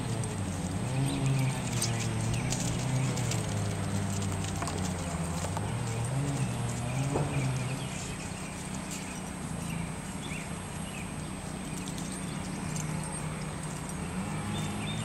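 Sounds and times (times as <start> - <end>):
soft hoof steps on grass: 0.0 - 15.0.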